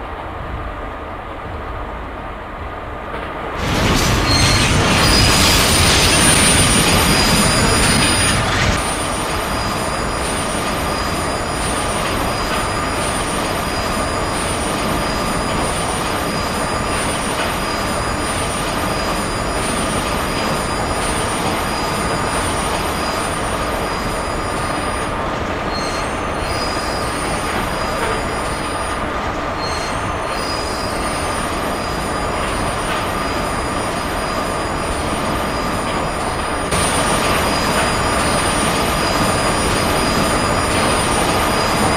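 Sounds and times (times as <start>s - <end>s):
train running rumble and hiss: 0.0s - 41.9s.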